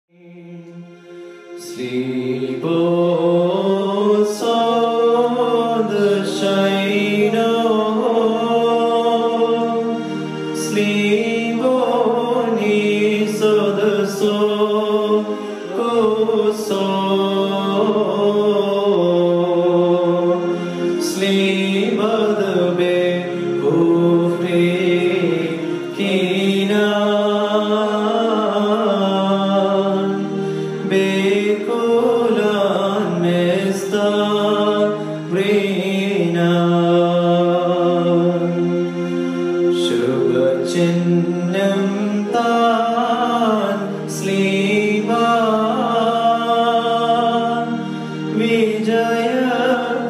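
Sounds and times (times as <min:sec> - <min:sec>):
person singing a hymn: 0:00.1 - 0:50.0
sustained keyboard chords: 0:00.1 - 0:50.0.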